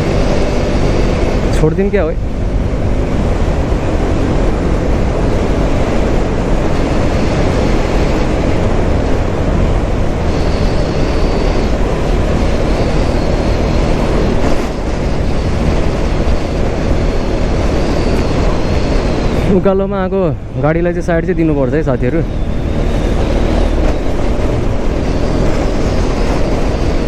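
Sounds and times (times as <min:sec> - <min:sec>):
motorcycle engine: 0:00.0 - 0:27.0
wind noise on microphone: 0:00.0 - 0:27.0.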